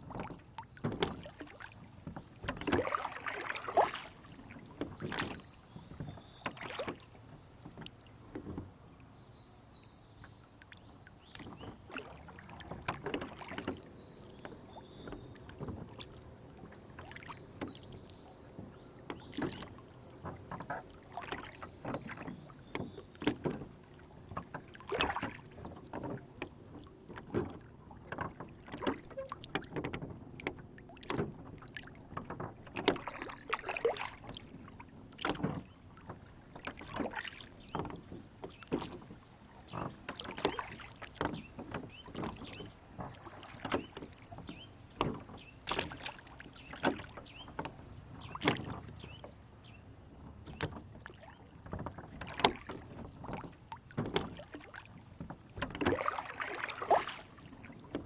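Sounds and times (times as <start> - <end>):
water lapping against boat hull: 0.0 - 58.0.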